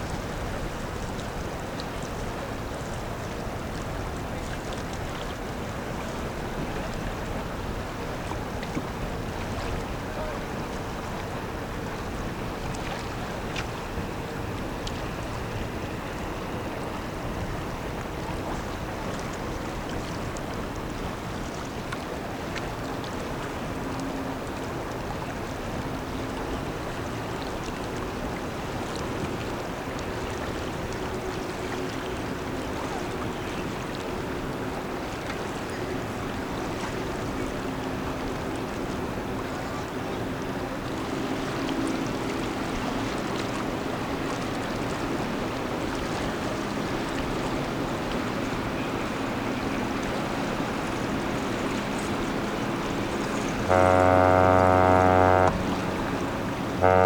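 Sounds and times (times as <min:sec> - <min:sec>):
boat engine droning: 0:00.0 - 0:57.0
water noise: 0:00.0 - 0:57.0
wind: 0:00.0 - 0:57.0.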